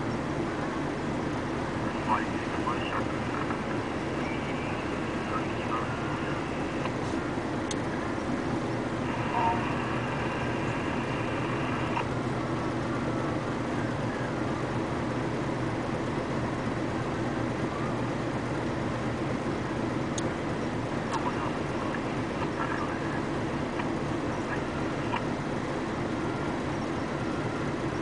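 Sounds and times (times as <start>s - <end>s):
diesel truck engine idling: 0.0s - 28.0s
high steady whine: 0.0s - 28.0s.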